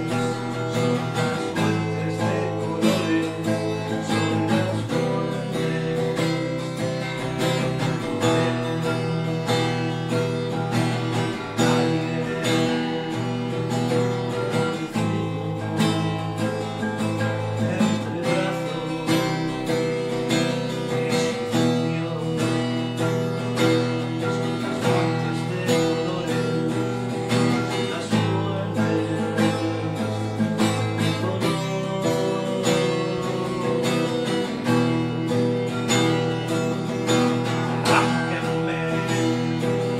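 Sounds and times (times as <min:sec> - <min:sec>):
acoustic guitar strummed and plucked: 0:00.0 - 0:39.9.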